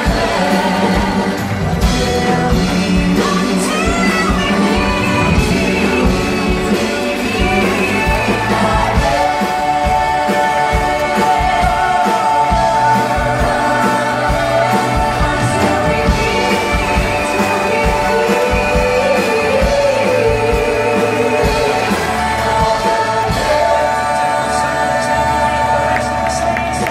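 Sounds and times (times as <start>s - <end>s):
live band with drums and guitar: 0.0s - 26.9s
people singing into microphones: 0.0s - 26.9s.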